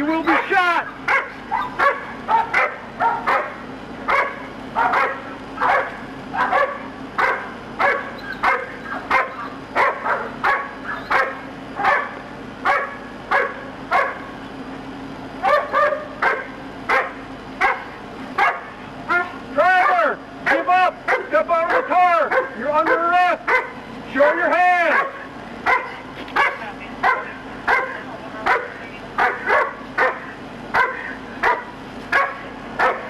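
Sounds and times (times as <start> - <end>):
dog barking: 1.1 - 14.3, 15.4 - 23.8, 24.9 - 33.0.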